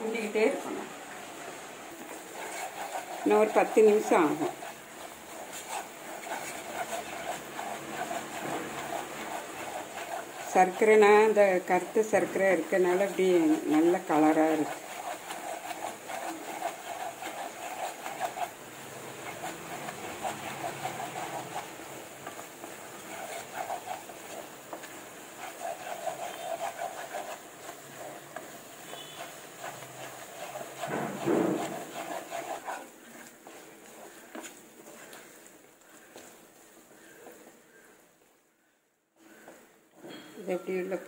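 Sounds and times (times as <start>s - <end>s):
wooden spatula scraping a pan: 0.0s - 38.0s, 39.2s - 41.0s.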